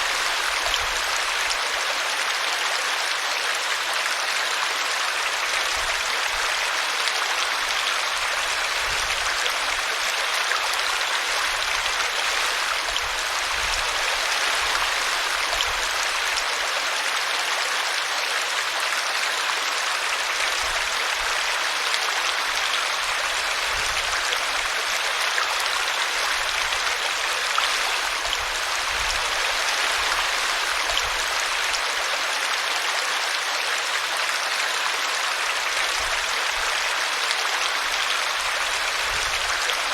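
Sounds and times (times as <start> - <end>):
brook babbling over a root: 0.0 - 39.9.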